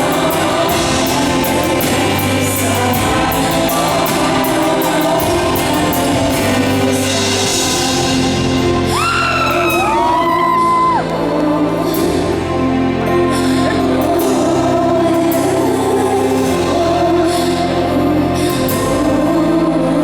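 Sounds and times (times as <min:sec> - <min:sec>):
sustained accompaniment chords: 0:00.0 - 0:20.0
woman singing a ballad: 0:00.0 - 0:20.0.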